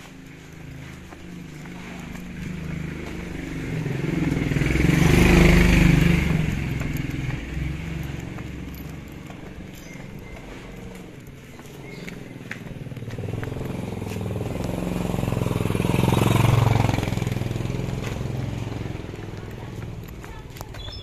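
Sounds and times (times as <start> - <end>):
motorcycle engine passing by: 0.0 - 21.0.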